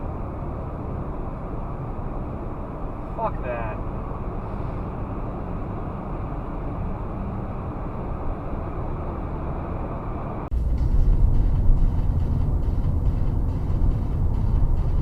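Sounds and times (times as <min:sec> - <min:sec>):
car driving road noise: 0:00.0 - 0:15.0.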